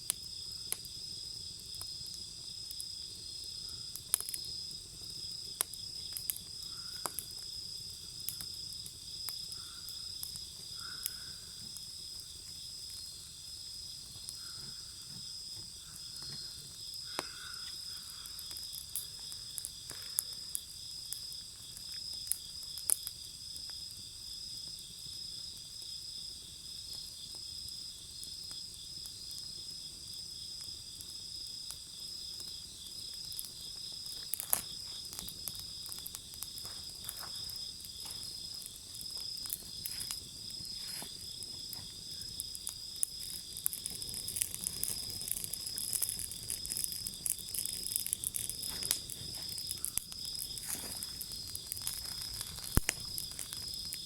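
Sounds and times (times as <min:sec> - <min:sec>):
bonfire crackling and popping: 0:00.0 - 0:54.0
insects chirping: 0:00.0 - 0:54.0.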